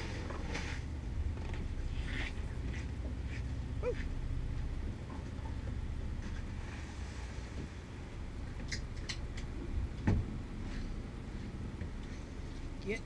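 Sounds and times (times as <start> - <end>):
fishing boat engine rumble: 0.0 - 13.0.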